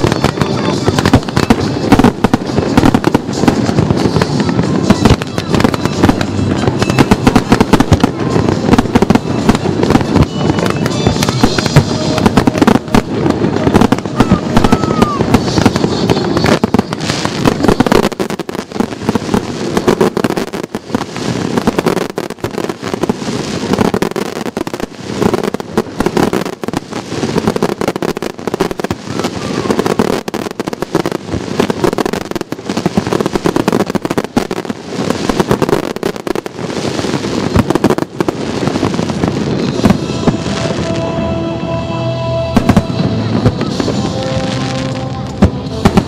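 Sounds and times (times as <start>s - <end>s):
fireworks bangs and crackle: 0.0s - 41.6s, 42.4s - 46.0s.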